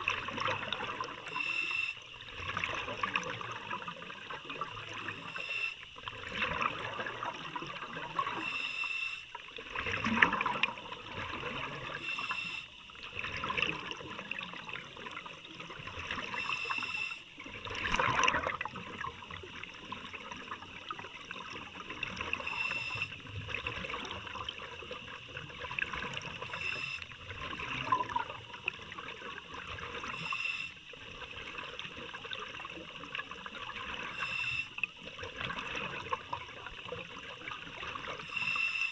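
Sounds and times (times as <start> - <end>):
underwater water gurgling: 0.0 - 38.9.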